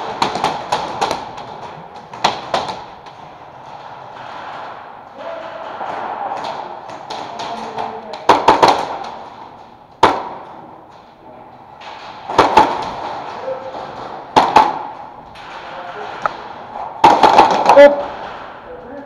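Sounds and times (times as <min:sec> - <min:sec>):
airsoft guns firing: 0:00.0 - 0:10.7, 0:11.8 - 0:18.6.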